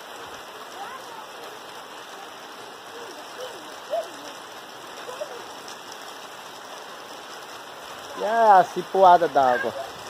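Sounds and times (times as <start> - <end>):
steady rain: 0.0 - 10.0
water pouring from roof spout: 0.0 - 10.0.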